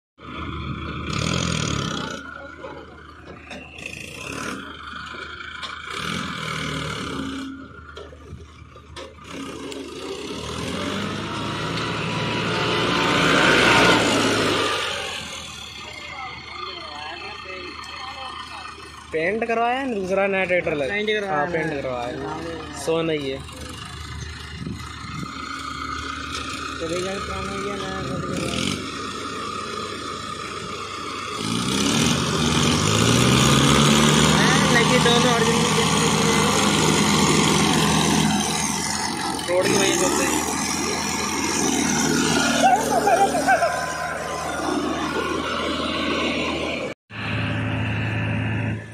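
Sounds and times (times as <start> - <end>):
tractor diesel engine passing: 0.2 - 48.9.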